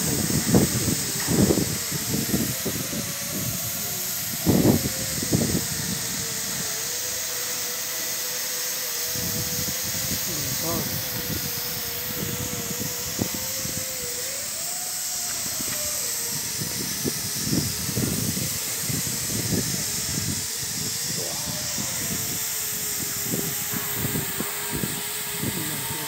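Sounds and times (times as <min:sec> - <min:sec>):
loud even hiss: 0:00.0 - 0:26.0
wavering humming tone: 0:00.0 - 0:26.0.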